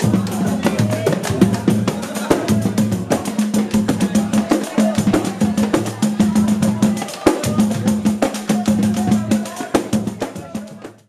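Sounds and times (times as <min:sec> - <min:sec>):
fast percussion hits: 0:00.0 - 0:11.0
person singing: 0:00.0 - 0:11.0.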